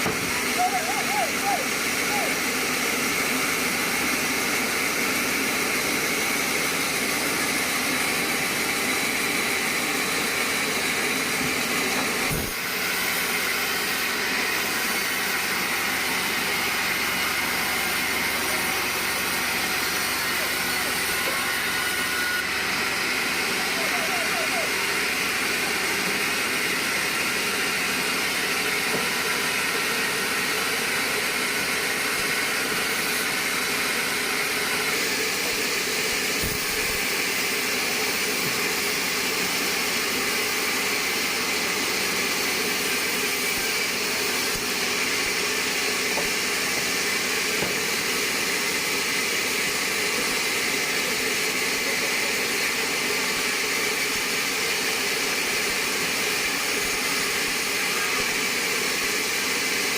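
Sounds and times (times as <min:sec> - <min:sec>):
band saw rushing noise: 0:00.0 - 0:59.8.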